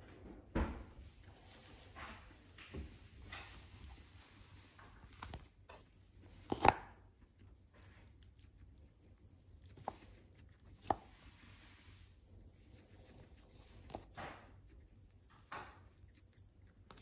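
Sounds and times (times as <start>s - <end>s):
guinea pig chewing grass: 0.0s - 17.0s.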